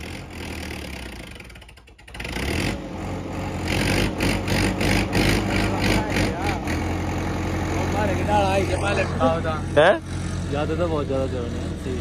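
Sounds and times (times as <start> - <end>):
diesel tractor engine: 0.0 - 12.0.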